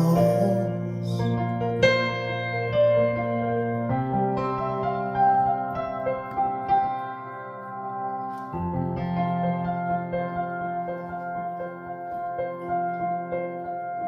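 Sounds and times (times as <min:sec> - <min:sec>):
piano sustained chords: 0:00.0 - 0:14.0.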